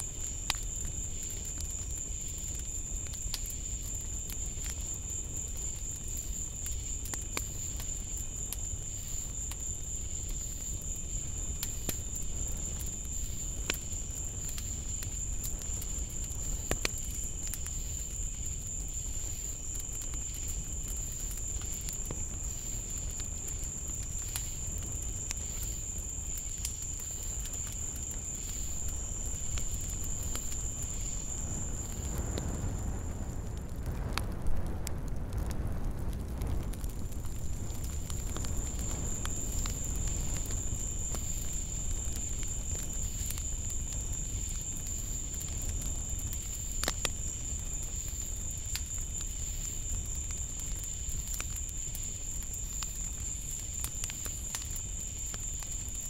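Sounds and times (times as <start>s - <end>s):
night insects chorus: 0.0s - 34.3s, 36.4s - 56.0s.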